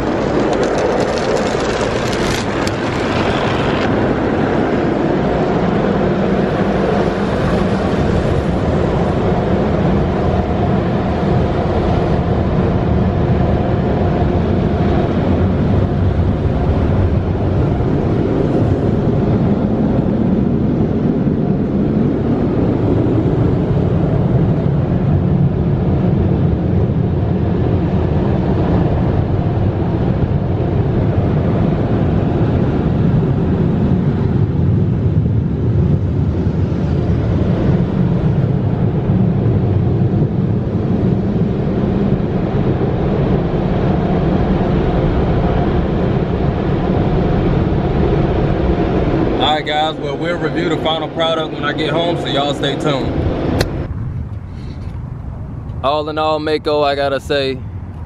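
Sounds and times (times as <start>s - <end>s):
rush of drying blowers: 0.0s - 58.0s.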